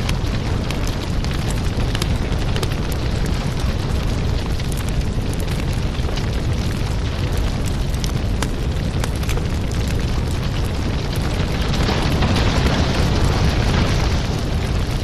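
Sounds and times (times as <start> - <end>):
firewood burning and crackling: 0.0 - 15.0.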